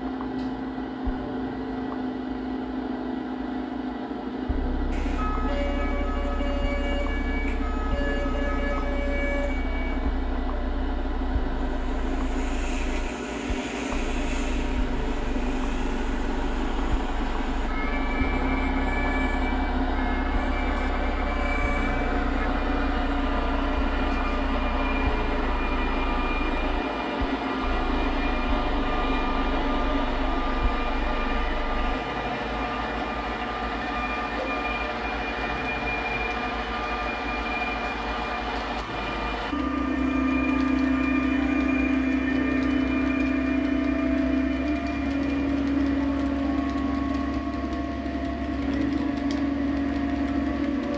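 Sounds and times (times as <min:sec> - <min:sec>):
deep drone of passing train: 0:00.0 - 0:50.9
train running hum: 0:00.0 - 0:50.9
held steady tones: 0:04.5 - 0:50.9.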